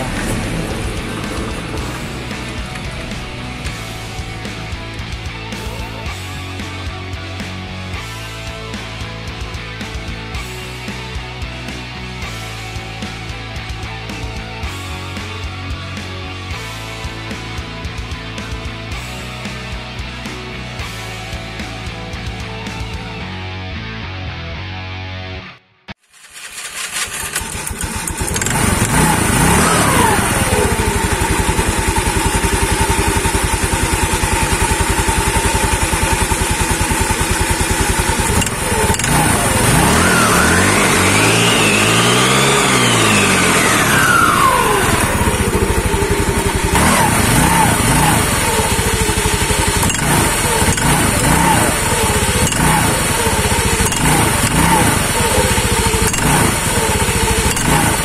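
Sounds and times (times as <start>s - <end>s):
scooter engine idling and revving: 0.0s - 23.4s, 26.0s - 58.0s.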